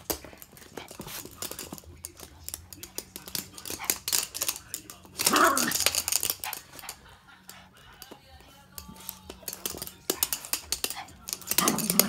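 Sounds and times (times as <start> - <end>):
dog claws scrabbling on hard floor: 0.0 - 12.0.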